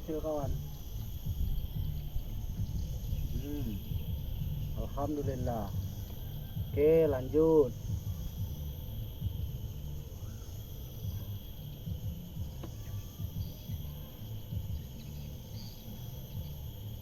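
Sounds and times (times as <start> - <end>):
wind buffeting microphone: 0.0 - 15.0
insects droning: 0.0 - 17.0.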